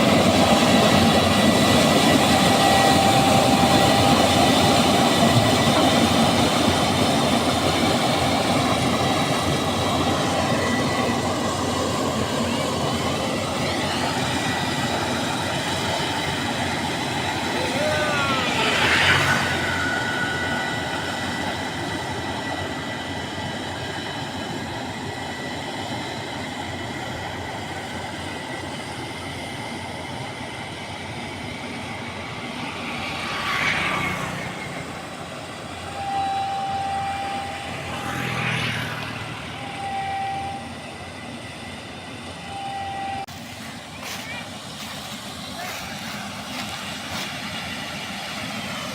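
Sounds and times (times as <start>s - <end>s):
combine harvester running: 0.0s - 48.9s
steady high tone: 0.0s - 48.9s.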